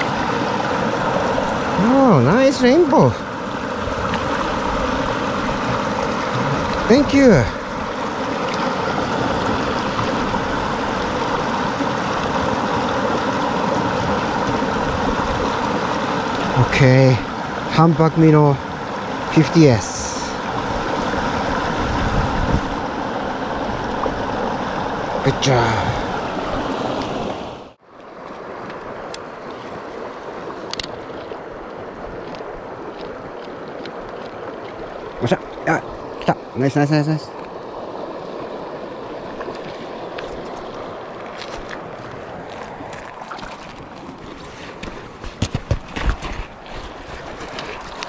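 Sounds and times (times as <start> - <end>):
creek running over rocks: 0.0 - 48.0
water rushing over stones: 0.0 - 48.0.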